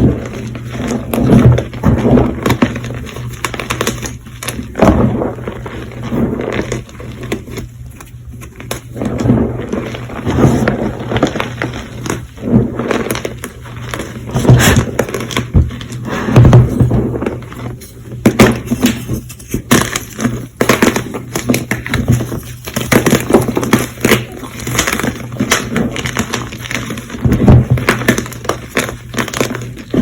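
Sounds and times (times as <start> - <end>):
chalk being crushed: 0.0 - 30.0.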